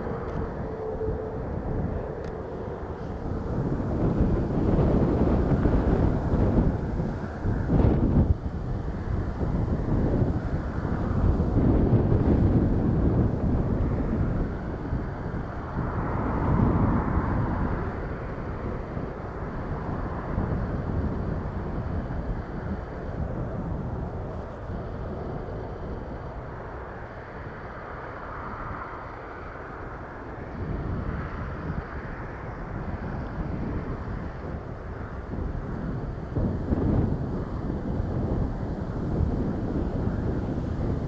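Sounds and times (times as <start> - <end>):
jet engine rumble: 0.0 - 41.0
wind buffeting microphone: 0.0 - 41.0.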